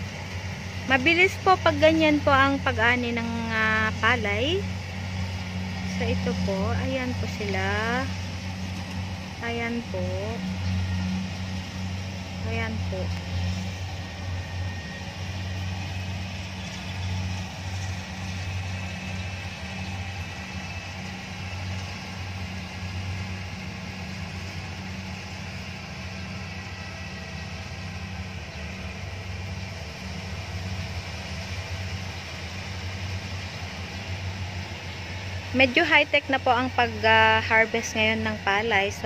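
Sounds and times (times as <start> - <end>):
combine harvester engines droning: 0.0 - 39.0.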